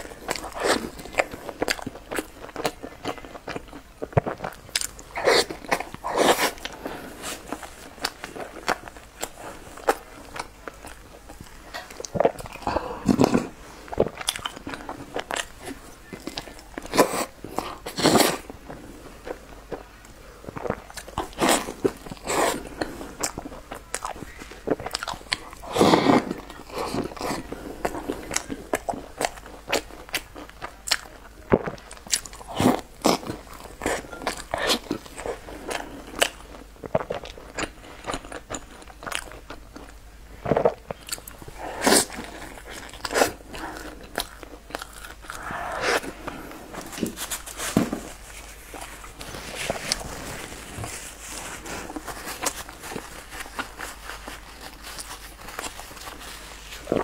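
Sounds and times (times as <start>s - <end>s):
soft mouth sounds: 0.0s - 56.1s
person chewing crunchy food: 0.0s - 57.0s.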